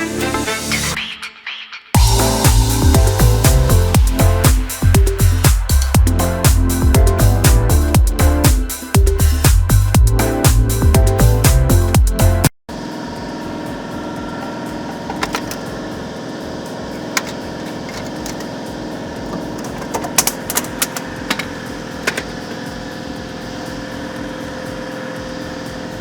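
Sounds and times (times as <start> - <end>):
motor hum: 2.0 - 26.0.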